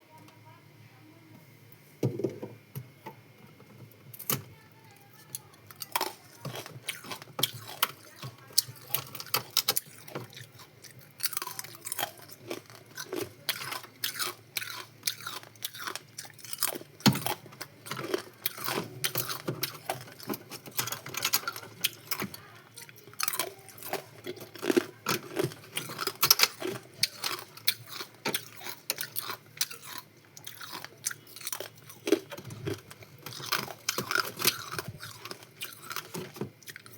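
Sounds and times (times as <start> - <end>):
ice being chewed: 5.3 - 36.9.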